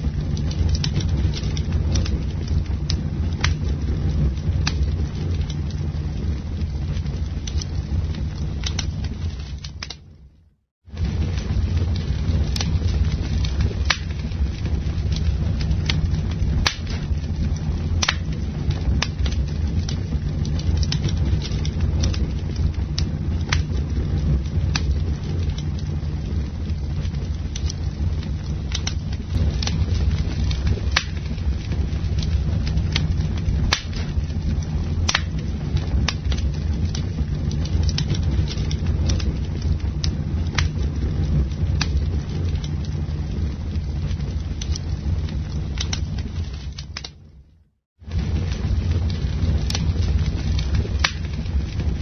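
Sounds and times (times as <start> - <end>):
campfire crackling and popping: 0.0 - 52.0
low rumble of fire: 0.0 - 52.0.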